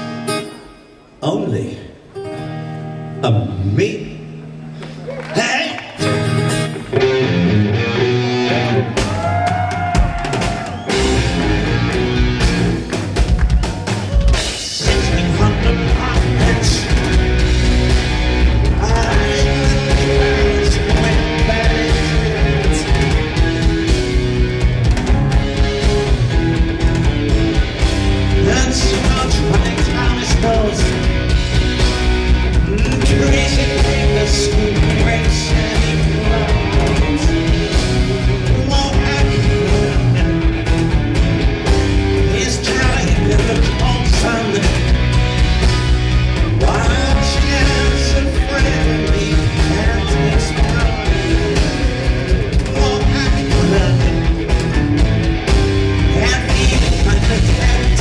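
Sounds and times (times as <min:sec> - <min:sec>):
live rock band playing: 0:00.0 - 0:01.2, 0:04.1 - 0:58.0.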